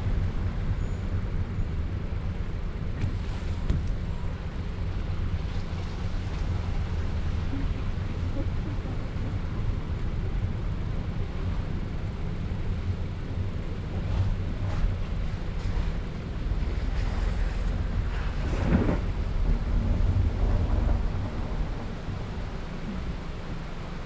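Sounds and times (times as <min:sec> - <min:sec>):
car driving on slushy road: 0:00.0 - 0:24.0
wind noise on microphone: 0:00.0 - 0:24.0.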